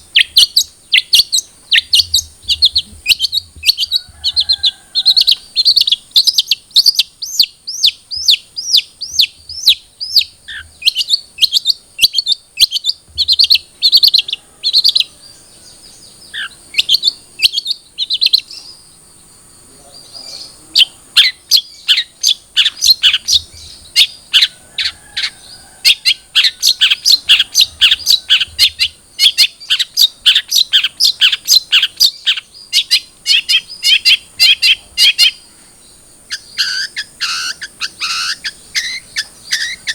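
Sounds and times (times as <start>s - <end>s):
bird sharp chirps: 0.0s - 39.9s.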